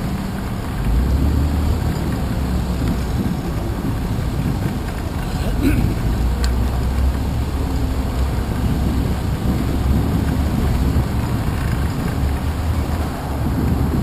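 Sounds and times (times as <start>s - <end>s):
bicycle road noise on wet pavement: 0.0s - 14.0s
wind rumble: 0.0s - 14.0s.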